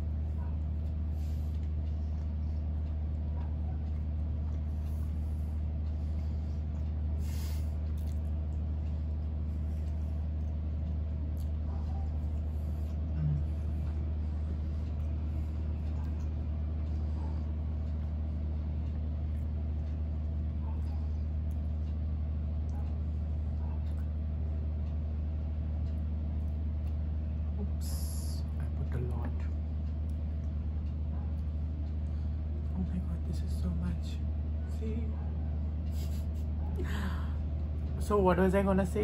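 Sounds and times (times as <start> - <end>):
chewing soft cake: 0.0 - 39.0
steady low hum: 0.0 - 39.0.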